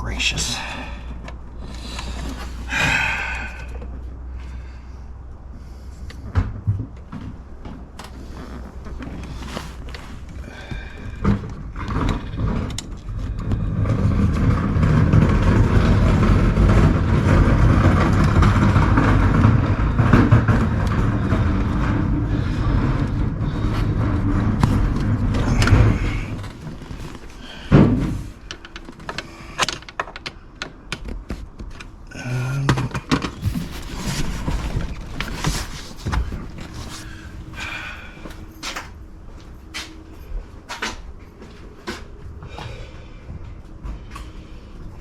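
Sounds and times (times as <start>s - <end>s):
low engine-like drone: 0.0s - 45.0s.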